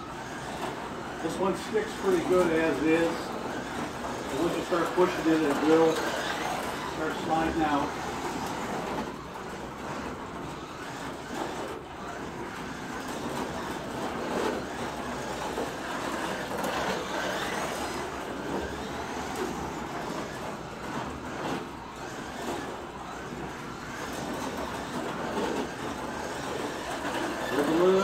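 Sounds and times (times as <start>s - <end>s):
slot car motor and tires: 0.0s - 28.0s.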